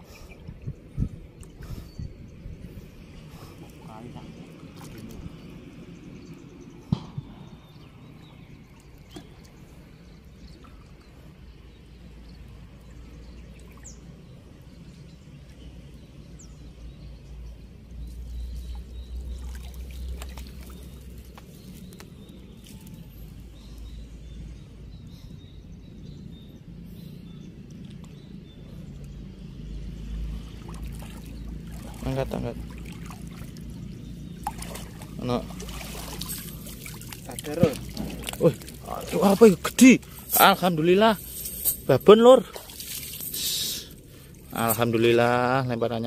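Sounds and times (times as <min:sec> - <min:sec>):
water splashing and trickling: 0:00.0 - 0:46.0.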